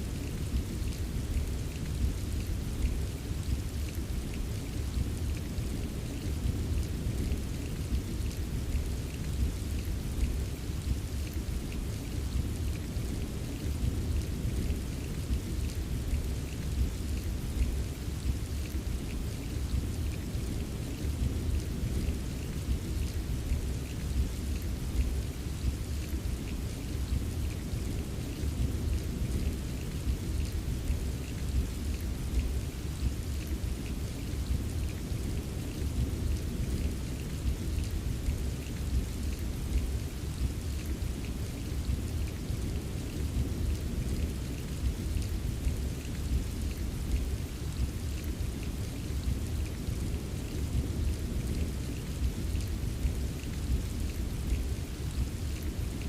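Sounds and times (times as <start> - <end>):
rainfall: 0.0 - 56.0.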